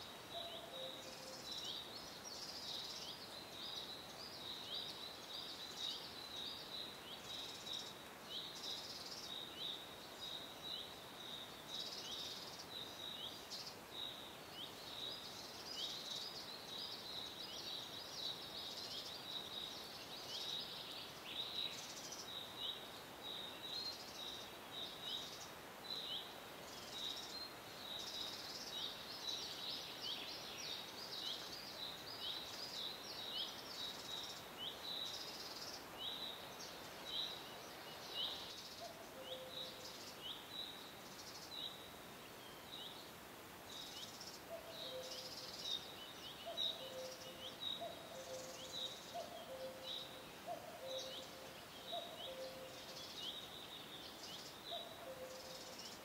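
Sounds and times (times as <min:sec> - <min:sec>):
faint hiss: 0:00.0 - 0:56.0
birds chirping: 0:07.1 - 0:56.0.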